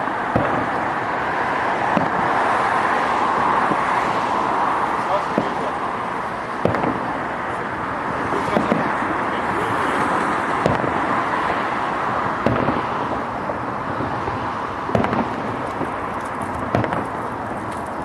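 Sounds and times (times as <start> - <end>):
distant firework bangs: 0.0 - 4.1, 5.0 - 18.0.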